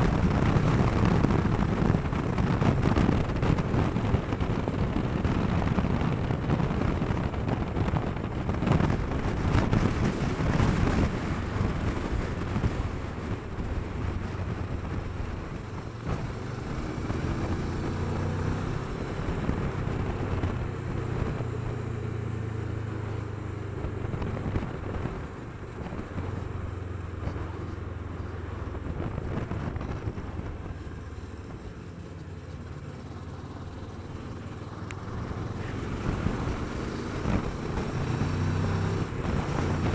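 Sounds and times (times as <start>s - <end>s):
wind rushing over microphone: 0.0s - 31.9s, 34.8s - 39.9s
motorcycle engine cruising: 0.0s - 39.9s.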